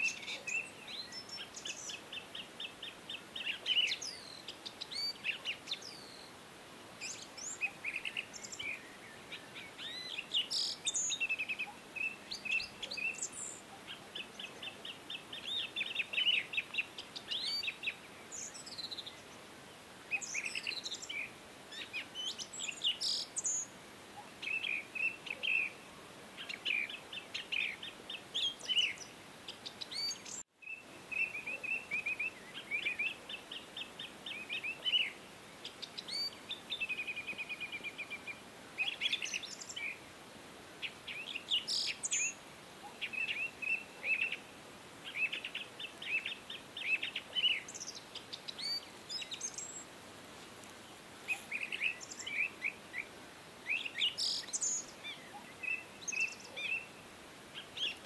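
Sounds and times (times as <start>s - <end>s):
small birds chirping and singing: 0.0s - 40.1s, 40.8s - 49.9s, 50.5s - 58.0s.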